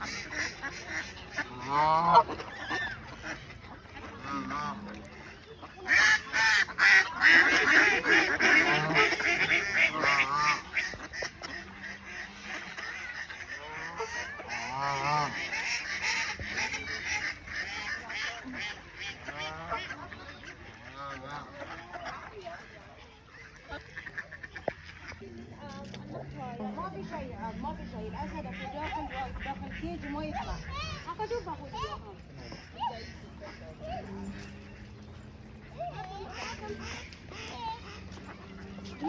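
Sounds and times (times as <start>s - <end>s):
geese honking: 0.0s - 39.0s.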